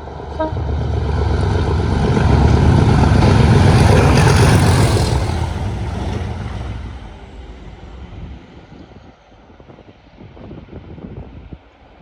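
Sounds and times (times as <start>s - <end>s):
diesel train passing: 0.0s - 12.0s.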